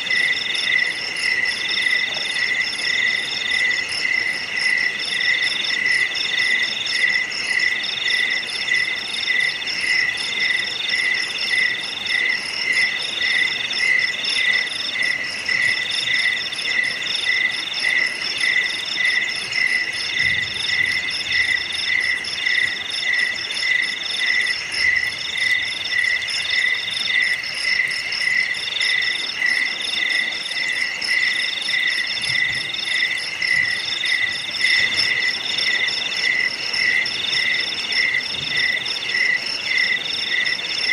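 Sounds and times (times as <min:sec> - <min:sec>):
low cricket chirp: 0:00.0 - 0:40.9.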